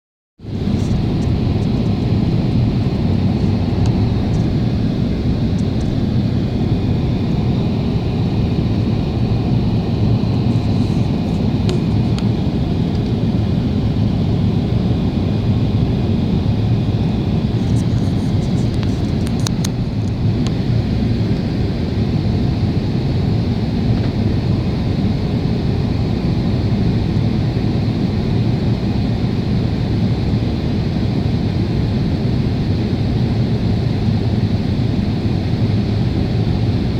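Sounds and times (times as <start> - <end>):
airliner cabin roar: 0.4 - 36.9
faint high whine: 0.4 - 36.9.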